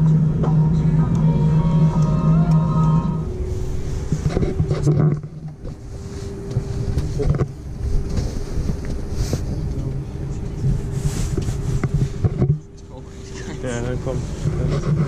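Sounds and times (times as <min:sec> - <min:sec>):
aircraft cabin rumble and hum: 0:00.0 - 0:15.0.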